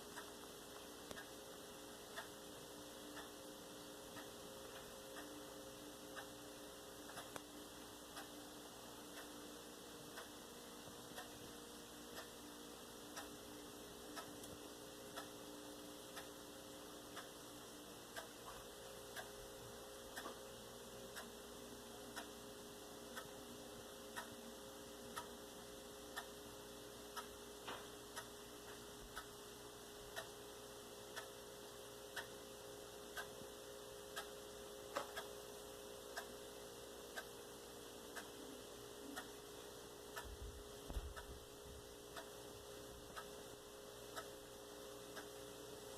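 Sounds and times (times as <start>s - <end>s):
faint regular ticking: 0.0s - 45.9s
low steady hum: 0.0s - 45.9s.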